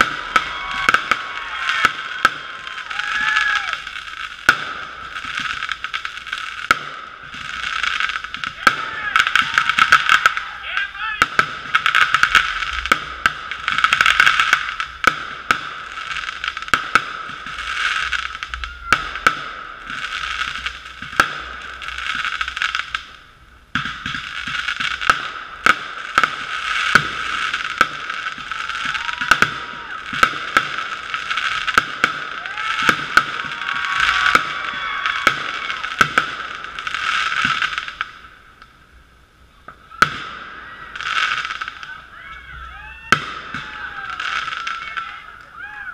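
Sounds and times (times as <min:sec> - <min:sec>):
fireworks hissing crackle: 0:00.0 - 0:45.9
muffled fireworks bangs: 0:00.0 - 0:45.9.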